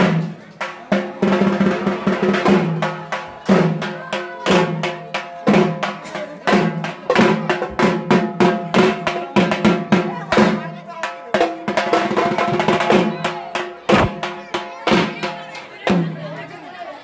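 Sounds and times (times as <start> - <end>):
drums in steady rhythm: 0.0 - 16.5.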